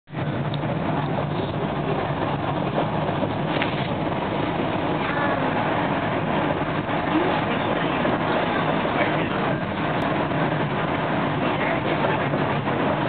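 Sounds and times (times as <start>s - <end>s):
train wheels rumbling on rails: 0.1s - 13.0s.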